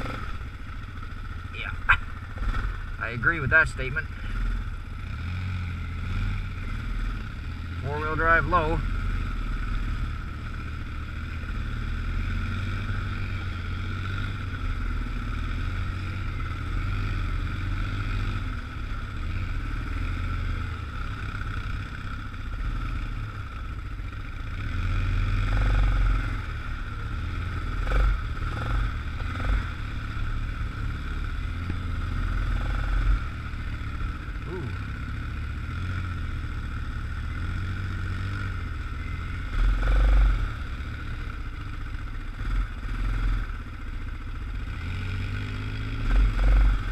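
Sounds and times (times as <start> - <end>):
atv engine running at low speed: 0.0 - 46.9.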